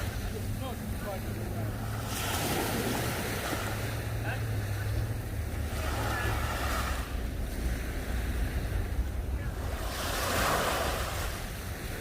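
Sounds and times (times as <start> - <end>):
surf washing: 0.0 - 12.0
wind buffeting microphone: 0.0 - 12.0.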